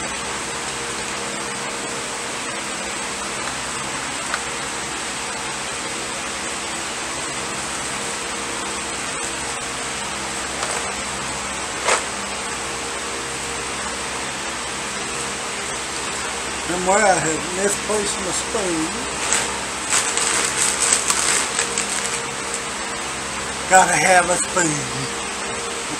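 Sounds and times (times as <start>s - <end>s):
fan whirring: 0.0s - 25.9s.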